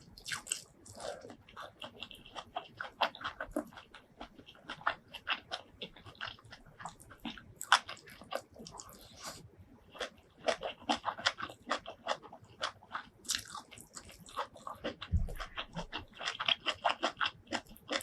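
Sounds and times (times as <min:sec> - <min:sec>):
chewing with wet mouth clicks: 0:00.1 - 0:18.0.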